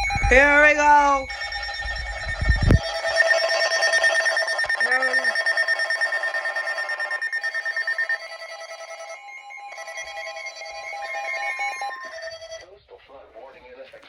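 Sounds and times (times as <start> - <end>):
rapid electronic alert beeps: 0.0 - 12.7.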